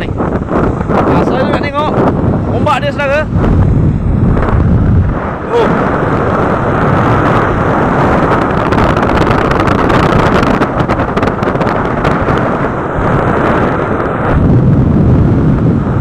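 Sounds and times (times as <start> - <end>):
rough sea waves: 0.0 - 16.0
wind buffeting microphone: 0.0 - 16.0.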